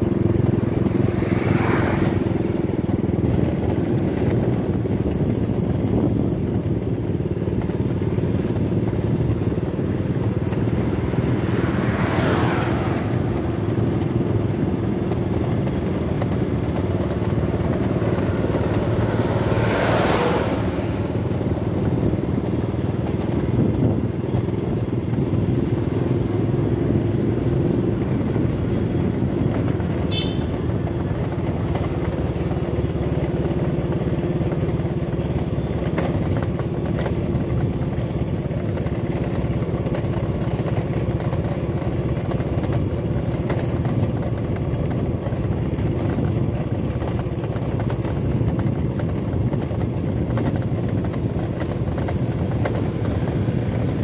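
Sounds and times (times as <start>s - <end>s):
motorcycle engine rumble: 0.0s - 54.0s
road noise: 0.0s - 54.0s.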